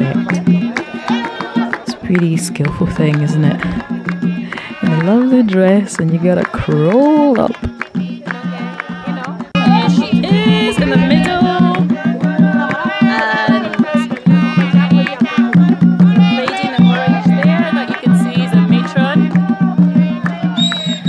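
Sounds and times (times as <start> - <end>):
traditional drumming: 0.0 - 21.0
women singing: 0.0 - 21.0.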